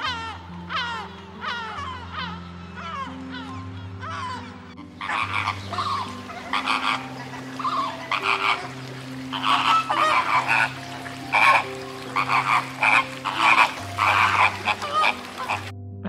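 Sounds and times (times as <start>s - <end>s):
flamingos honking: 0.0s - 15.7s.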